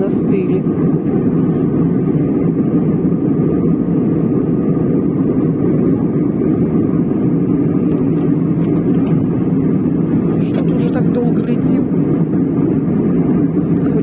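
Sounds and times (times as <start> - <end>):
airliner cabin hum: 0.0 - 14.0.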